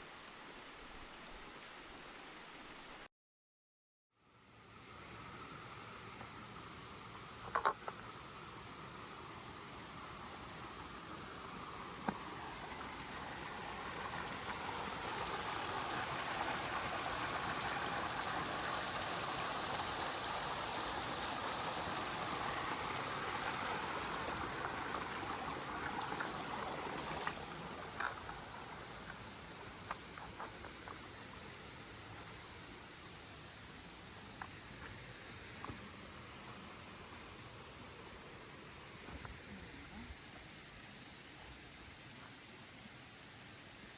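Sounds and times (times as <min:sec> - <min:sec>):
rushing water: 0:00.0 - 0:03.1, 0:04.4 - 0:43.9.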